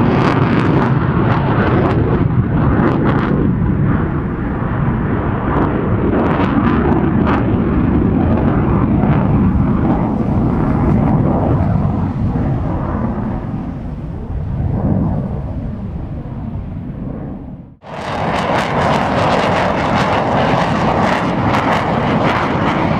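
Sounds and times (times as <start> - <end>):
jet engine rumbling: 0.0 - 22.9.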